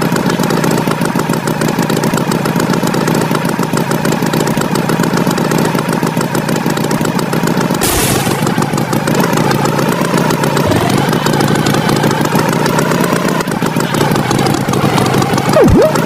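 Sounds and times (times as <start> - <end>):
tractor engine chugging: 0.0 - 16.0.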